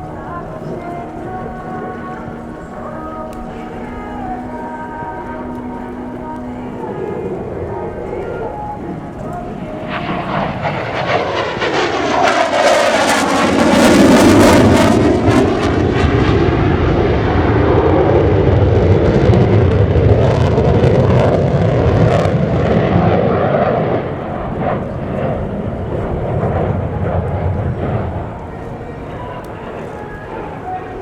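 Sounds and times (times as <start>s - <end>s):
jet engine passing by: 0.0s - 31.0s.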